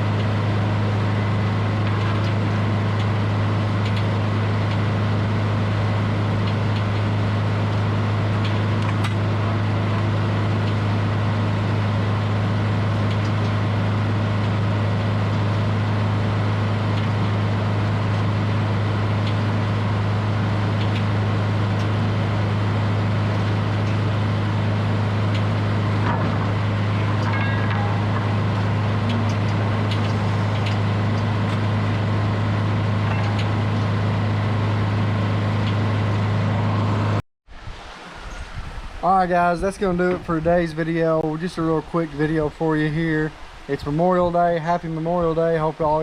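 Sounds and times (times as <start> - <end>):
sawmill running drone: 0.0 - 38.2, 38.8 - 46.0.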